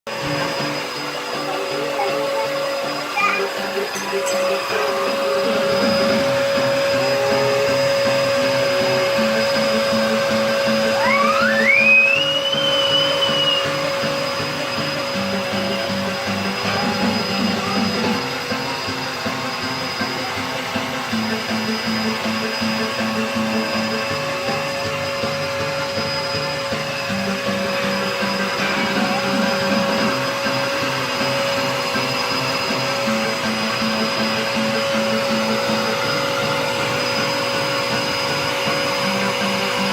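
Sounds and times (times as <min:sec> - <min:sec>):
vacuum cleaner whining: 0:00.0 - 0:39.9
background music: 0:00.1 - 0:39.9
low pulsing hum: 0:00.1 - 0:39.9
rising tone: 0:00.1 - 0:39.9.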